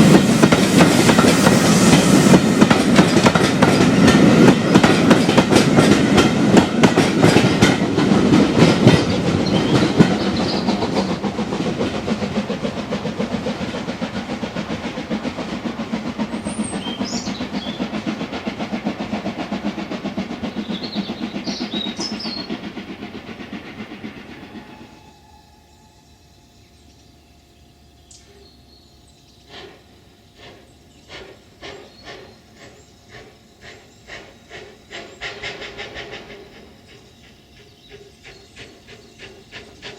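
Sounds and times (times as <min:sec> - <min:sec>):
train wheels clicking over rail joints: 0:00.0 - 0:25.3, 0:29.3 - 0:39.9.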